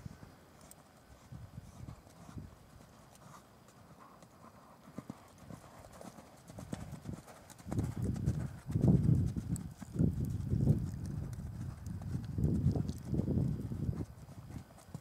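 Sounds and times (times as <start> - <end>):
horse hoofbeats on sand: 1.2 - 15.0.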